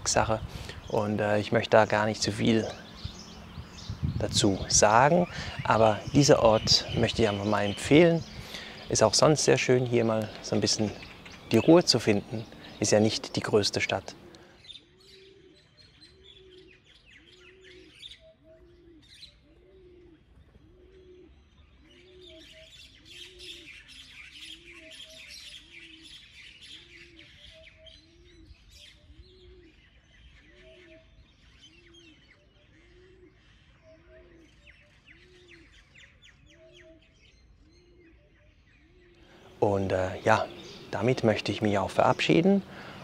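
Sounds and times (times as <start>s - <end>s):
low cooing bird: 0.0s - 43.0s
small birds chirping: 0.0s - 43.0s.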